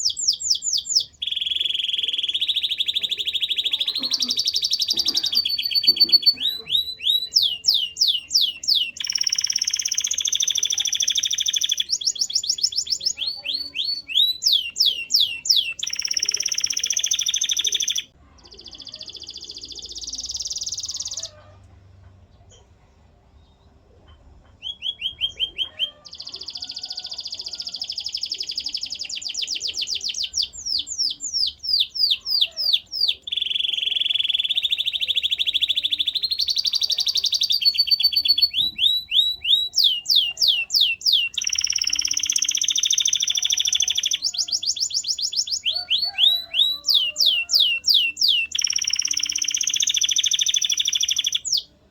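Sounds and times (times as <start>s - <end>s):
canary singing trills: 0.0s - 21.6s, 24.4s - 51.9s.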